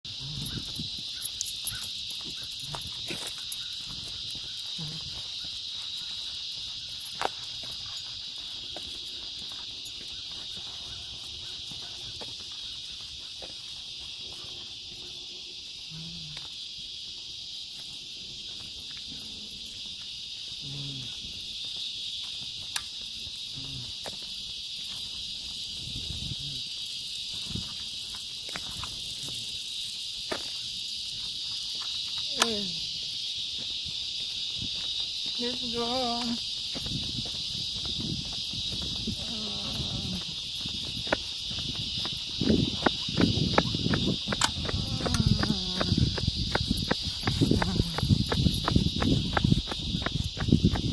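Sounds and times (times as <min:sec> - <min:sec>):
insects chorus: 0:00.0 - 0:50.9.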